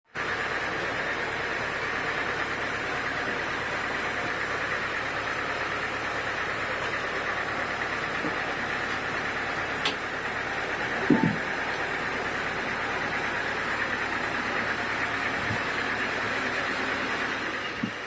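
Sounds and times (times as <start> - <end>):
sawmill machinery humming: 0.1 - 18.0.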